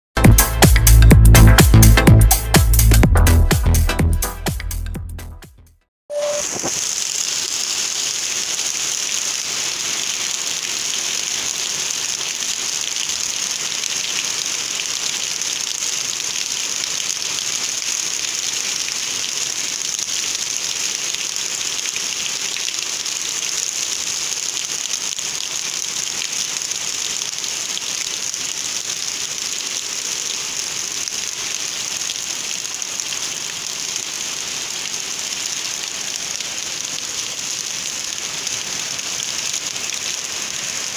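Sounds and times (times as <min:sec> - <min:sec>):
rain falling on trees: 0:06.2 - 0:40.9.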